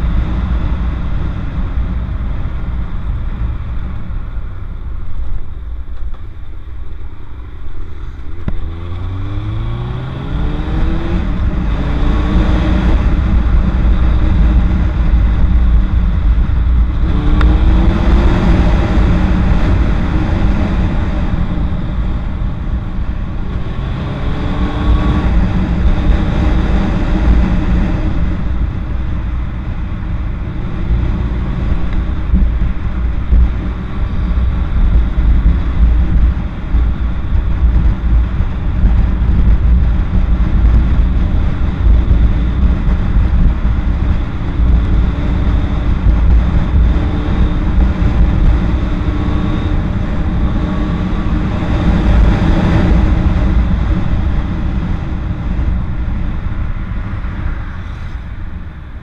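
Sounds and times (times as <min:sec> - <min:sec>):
motorcycle engine accelerating: 0:00.0 - 0:59.0
wind rumble on microphone: 0:00.0 - 0:59.0.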